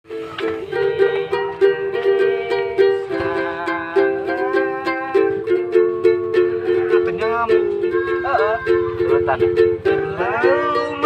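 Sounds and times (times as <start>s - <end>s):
strummed string instrument chords: 0.1s - 11.0s.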